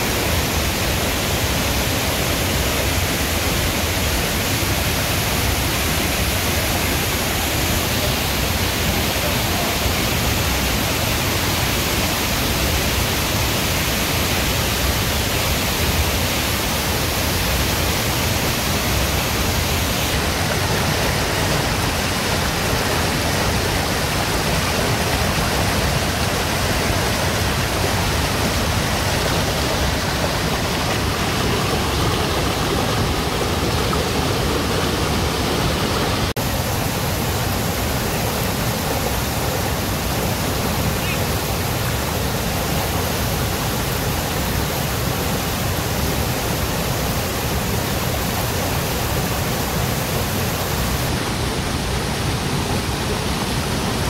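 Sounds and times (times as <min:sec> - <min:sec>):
stream roaring over rocks: 0:00.0 - 0:54.0.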